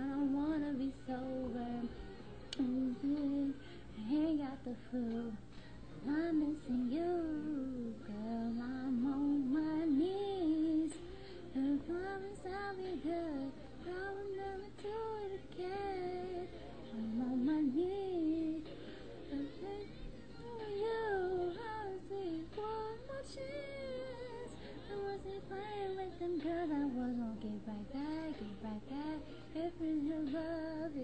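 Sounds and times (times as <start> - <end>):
young woman singing: 0.0 - 31.0.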